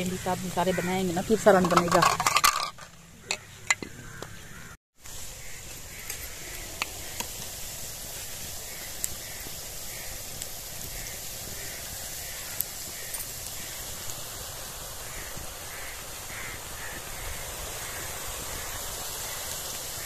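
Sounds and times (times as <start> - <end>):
onions sizzling in hot oil: 0.0 - 1.8, 4.6 - 20.0.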